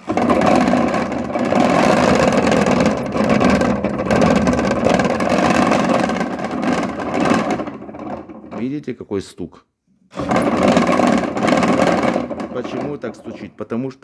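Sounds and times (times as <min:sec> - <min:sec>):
washing machine knocking clatter: 0:00.0 - 0:08.8, 0:10.2 - 0:13.6.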